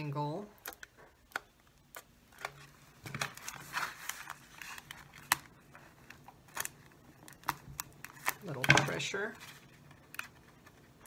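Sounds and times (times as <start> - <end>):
plastic clicking and crinkling: 0.6 - 11.0.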